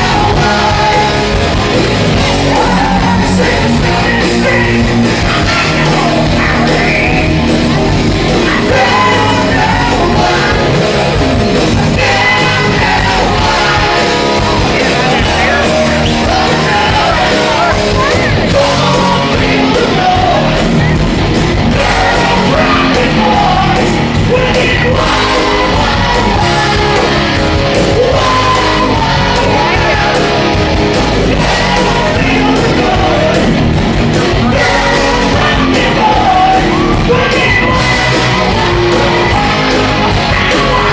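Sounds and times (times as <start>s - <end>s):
person singing: 0.0s - 21.0s, 21.6s - 40.9s
live rock band playing: 0.0s - 40.9s.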